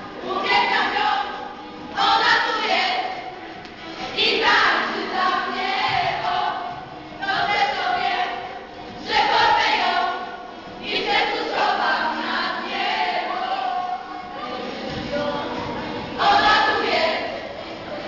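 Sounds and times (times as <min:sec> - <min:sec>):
young women singing in unison: 0:00.0 - 0:18.0.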